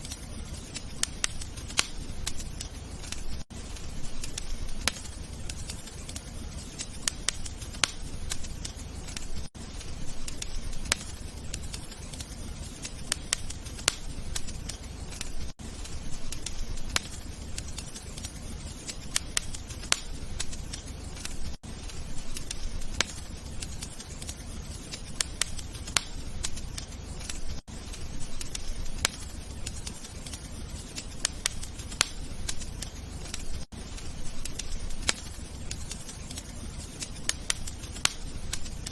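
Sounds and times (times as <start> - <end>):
fire crackling and popping: 0.0 - 38.9
wood fire rumbling: 0.0 - 38.9.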